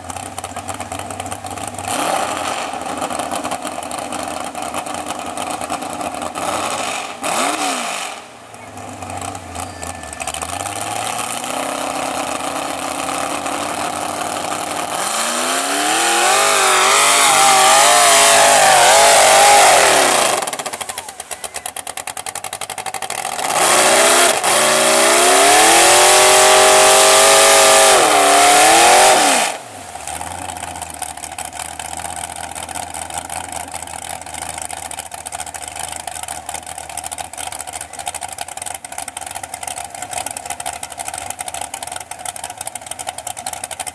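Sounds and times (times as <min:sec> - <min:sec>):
tires churning in mud: 0:00.0 - 0:43.9
truck engine revving: 0:00.0 - 0:43.9.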